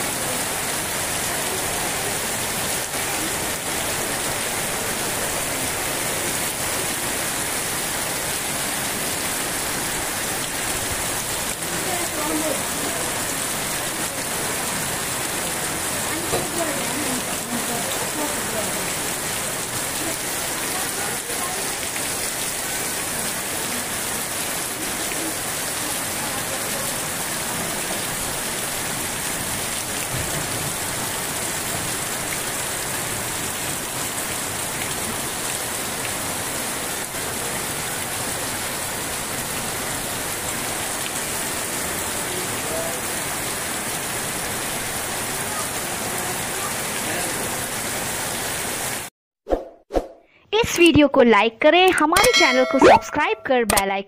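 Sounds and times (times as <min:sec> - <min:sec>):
heavy rain on wet ground: 0:00.0 - 0:49.1.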